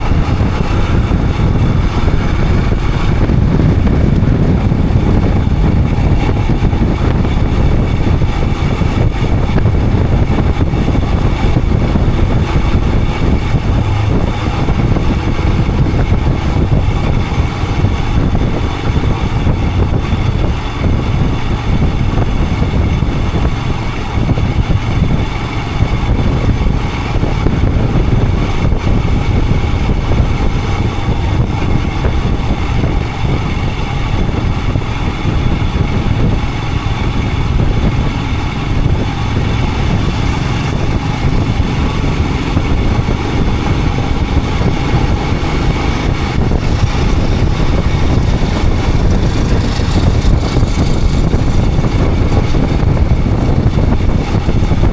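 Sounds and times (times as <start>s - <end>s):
constant microphone noise: 0.0s - 54.9s
motorcycle engine running: 0.0s - 54.9s.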